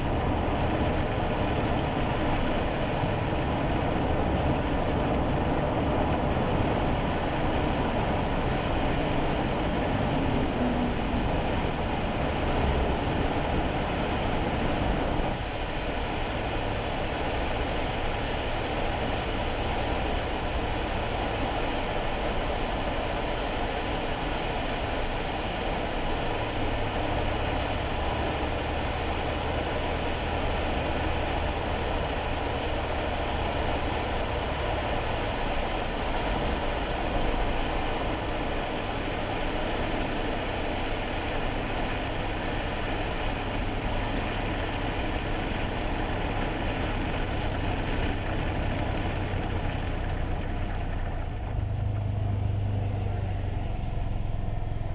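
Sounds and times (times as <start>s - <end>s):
road and tyre noise: 0.0s - 54.9s
small engine drone: 0.0s - 54.9s.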